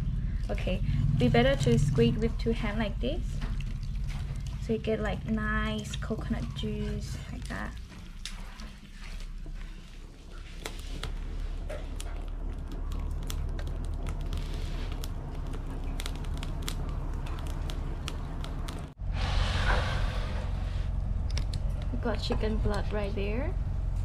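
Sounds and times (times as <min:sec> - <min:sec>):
charcoal crackling and snapping: 0:00.0 - 0:19.0, 0:20.2 - 0:24.0
low steady hum: 0:00.0 - 0:24.0.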